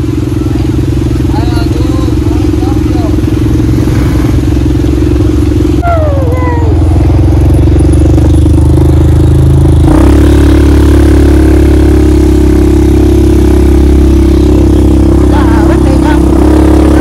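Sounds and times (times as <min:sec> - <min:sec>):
small vehicle engine running: 0:00.0 - 0:17.0.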